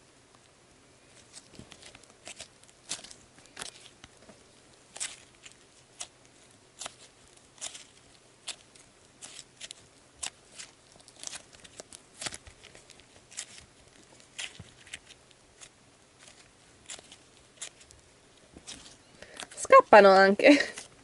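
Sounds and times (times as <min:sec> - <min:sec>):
beaded slime clicking and crackling: 0:01.1 - 0:19.8.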